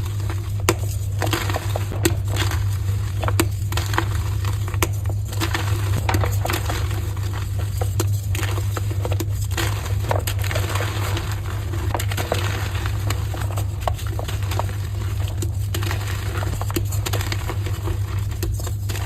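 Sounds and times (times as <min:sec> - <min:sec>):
chalk crushed and crumbled: 0:00.0 - 0:19.0
steady low hum: 0:00.0 - 0:19.0.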